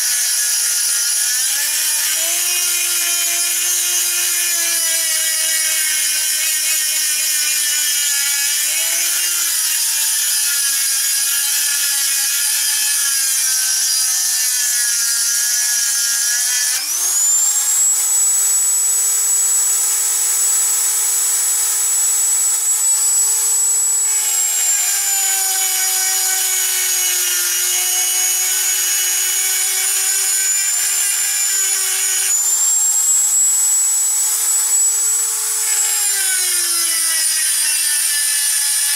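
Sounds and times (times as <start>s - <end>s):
rotary tool grinding steel: 0.0s - 38.9s.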